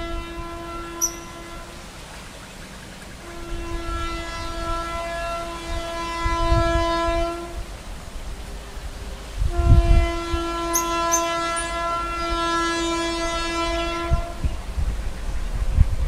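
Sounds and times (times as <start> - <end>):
train horn blast: 0.0 - 2.1, 3.2 - 14.7
train rumbling: 0.0 - 16.0.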